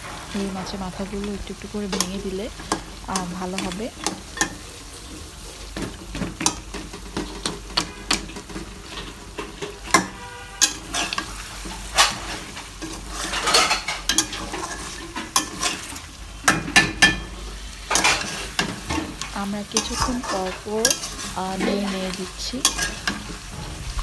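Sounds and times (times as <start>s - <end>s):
frying sizzle: 0.0s - 24.0s
metal spatula scraping a pan: 0.0s - 24.0s.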